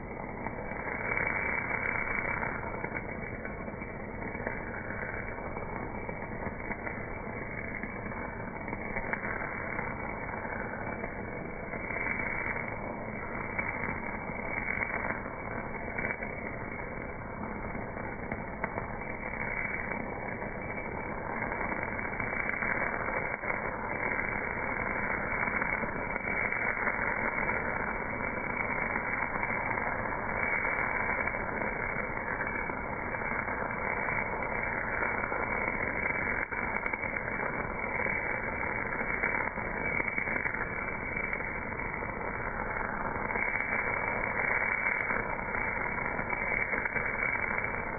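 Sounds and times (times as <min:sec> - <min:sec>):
welding arc hiss and crackle: 0:00.0 - 0:47.9.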